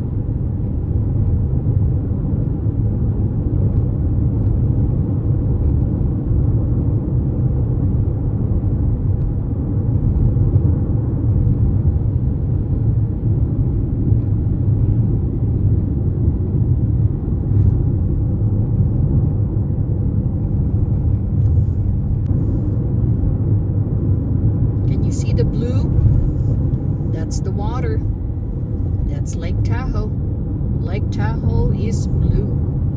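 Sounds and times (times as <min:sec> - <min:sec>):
car interior road rumble: 0:00.0 - 0:32.9.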